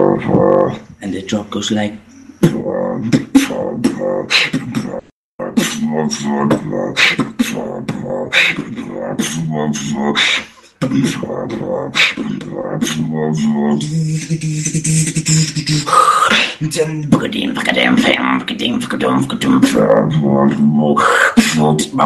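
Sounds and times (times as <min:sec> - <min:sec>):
beatboxing: 0:00.0 - 0:01.0, 0:02.0 - 0:22.0.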